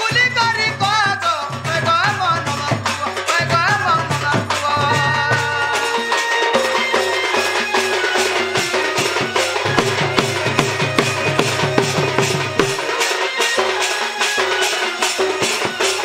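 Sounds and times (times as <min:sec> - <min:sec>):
folk dance music with drums: 0:00.0 - 0:16.0.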